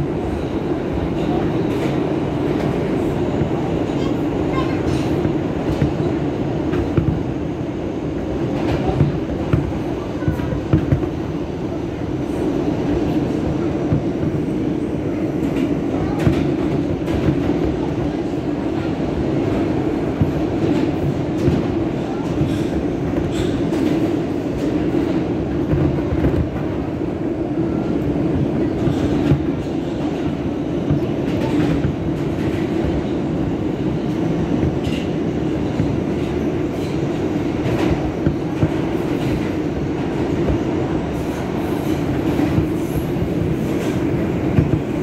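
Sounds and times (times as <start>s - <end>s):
subway car running on track: 0.0s - 45.0s.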